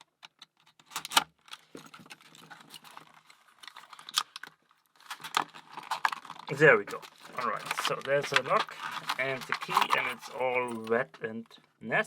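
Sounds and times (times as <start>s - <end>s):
packaging being torn open: 0.7s - 10.4s.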